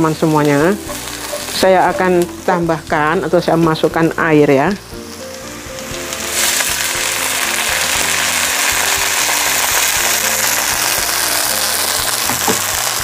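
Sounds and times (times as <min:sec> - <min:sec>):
water hissing in hot oil: 0:00.0 - 0:13.0.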